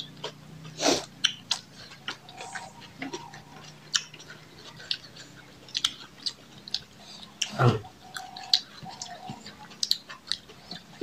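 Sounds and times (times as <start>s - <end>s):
lip-smacking clicks: 0.0s - 11.0s
wet chewing: 0.0s - 11.0s.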